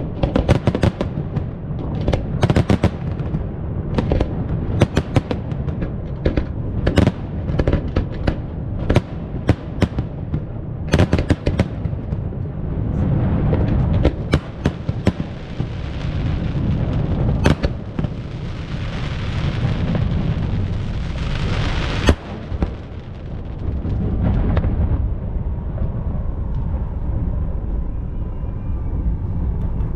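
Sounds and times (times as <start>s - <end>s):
fireworks crackling: 0.0s - 27.6s
fireworks bangs and booms: 0.0s - 27.9s
steady low rumble: 0.0s - 29.9s.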